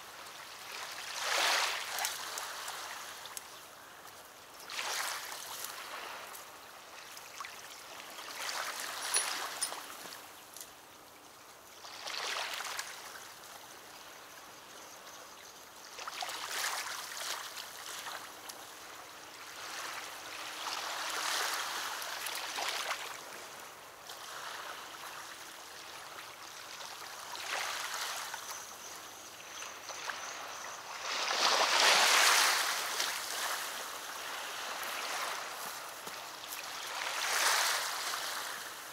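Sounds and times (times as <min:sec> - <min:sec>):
waves lapping against shore: 0:00.0 - 0:14.7, 0:15.8 - 0:38.9.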